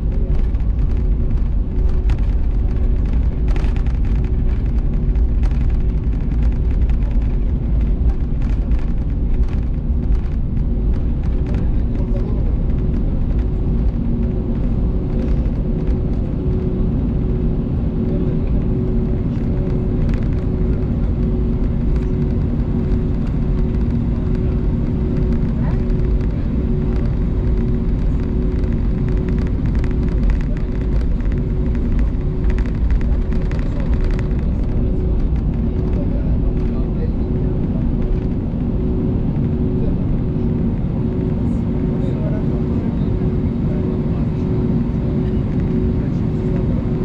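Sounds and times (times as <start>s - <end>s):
jet engines low rumble: 0.0s - 47.0s.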